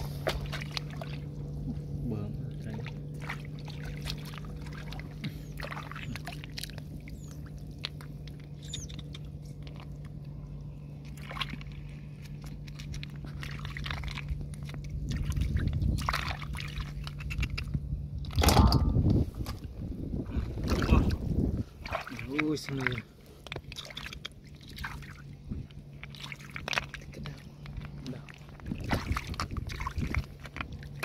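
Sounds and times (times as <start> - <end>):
hands splashing in muddy water: 0.0 - 1.9, 2.5 - 18.6, 20.4 - 31.0
steady low hum: 0.0 - 31.0.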